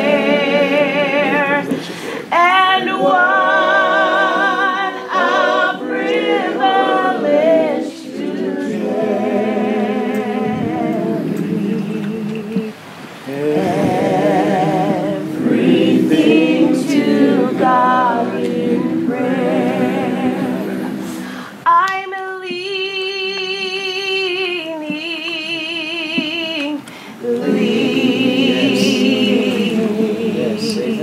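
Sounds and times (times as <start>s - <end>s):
solo woman singing with vibrato: 0.0s - 9.0s, 9.8s - 20.7s, 21.3s - 31.0s
women singing unaccompanied: 0.0s - 31.0s.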